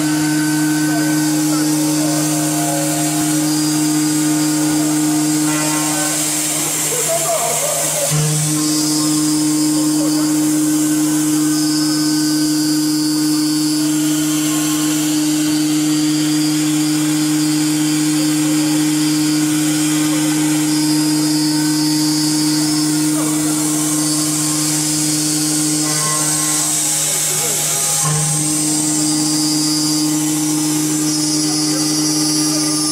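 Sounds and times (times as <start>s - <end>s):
hissing cutting noise: 0.0s - 32.9s
milling spindle hum: 0.0s - 32.9s.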